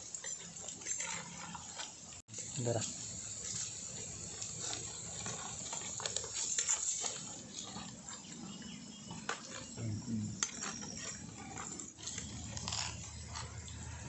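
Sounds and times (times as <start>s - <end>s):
metal spoon scraping clay pot: 0.0s - 2.2s, 2.9s - 14.0s.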